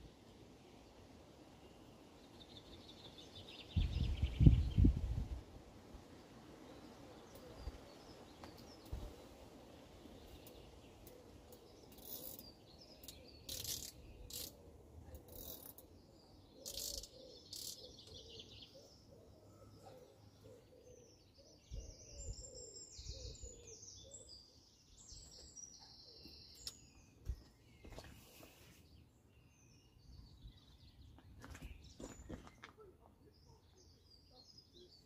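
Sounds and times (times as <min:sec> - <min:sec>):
high twittering birdsong: 0:00.0 - 0:05.4, 0:06.1 - 0:35.0
small birds chirping: 0:00.8 - 0:05.3, 0:06.1 - 0:35.0.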